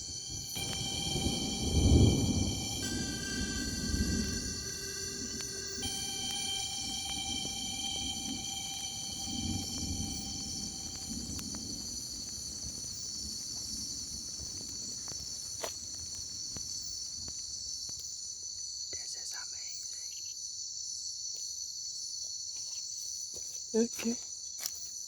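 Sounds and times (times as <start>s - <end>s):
night insects trilling: 0.0s - 25.0s.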